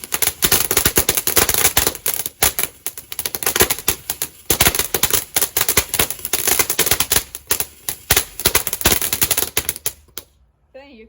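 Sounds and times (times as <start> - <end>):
fireworks crackling and popping: 0.0 - 10.3.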